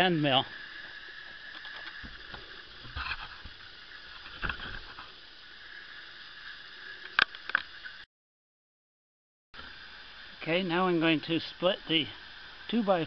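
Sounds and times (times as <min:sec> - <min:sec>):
outdoor background hiss: 0:00.0 - 0:08.1, 0:09.6 - 0:13.0.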